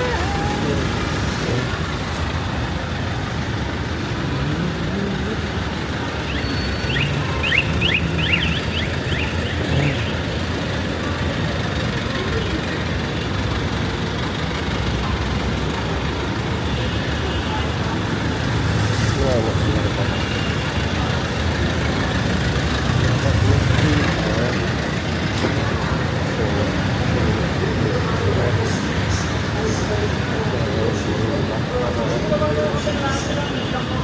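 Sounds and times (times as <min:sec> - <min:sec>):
vehicle engines rumbling: 0:00.0 - 0:34.0.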